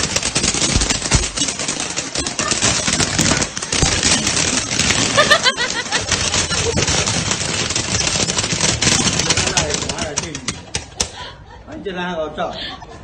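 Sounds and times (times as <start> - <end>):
firecrackers popping: 0.0 - 11.2.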